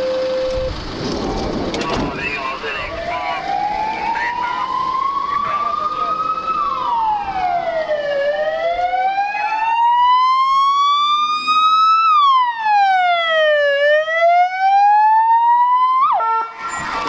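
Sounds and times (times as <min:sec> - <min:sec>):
emergency vehicle wail siren: 0:00.0 - 0:17.0
siren upward chirp: 0:02.0 - 0:17.0.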